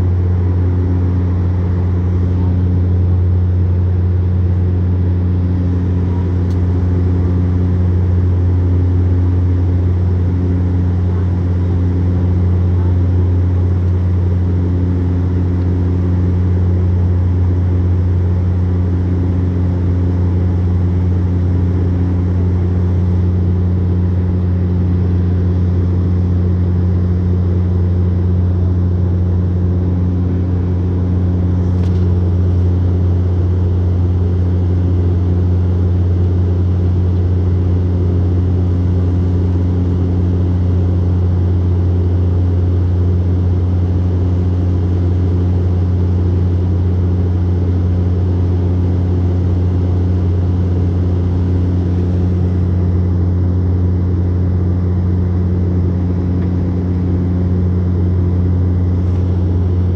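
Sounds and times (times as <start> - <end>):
propeller aircraft cabin drone: 0.0 - 59.9.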